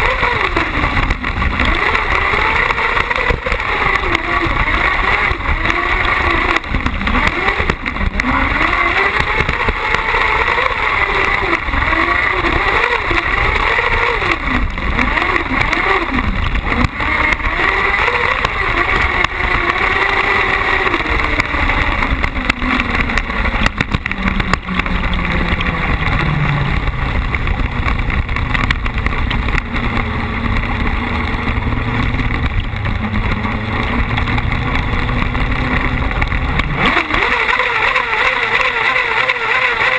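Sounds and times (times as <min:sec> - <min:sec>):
buggy engine racing: 0:00.0 - 0:39.9.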